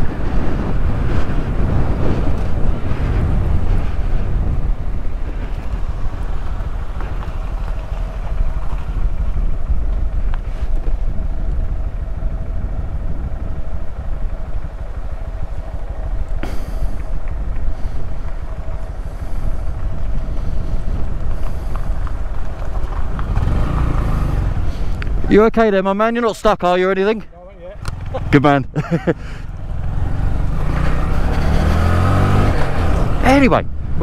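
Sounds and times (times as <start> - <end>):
wind rushing over microphone: 0.0 - 26.1, 27.6 - 34.0
motorcycle engine running: 0.0 - 26.2, 27.6 - 34.0.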